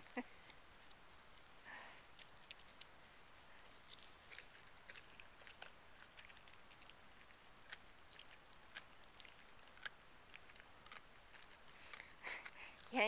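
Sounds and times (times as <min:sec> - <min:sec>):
dog crunching fish bones: 0:00.2 - 0:13.0.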